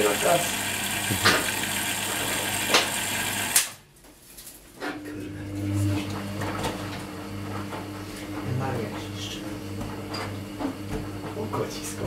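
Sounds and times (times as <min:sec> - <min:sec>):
washing machine motor humming: 0:00.0 - 0:03.8, 0:05.0 - 0:12.0.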